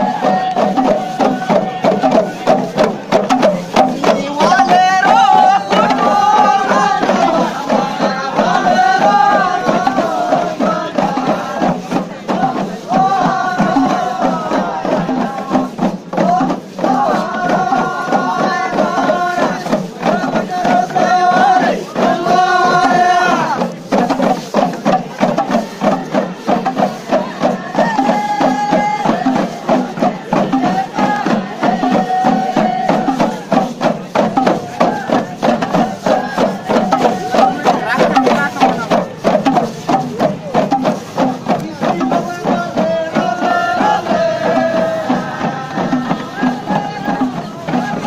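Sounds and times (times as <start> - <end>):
drums beating: 0.0 - 48.0.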